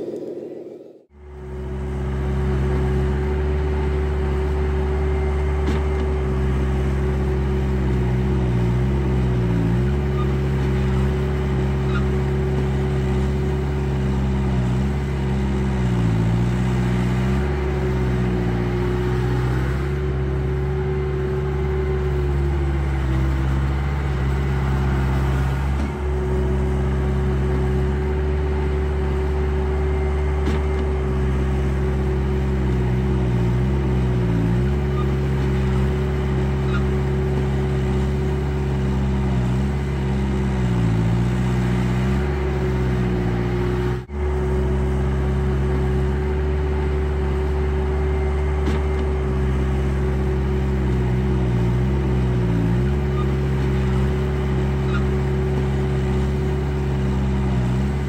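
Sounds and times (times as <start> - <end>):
simulated diesel engine: 0.0 - 58.0.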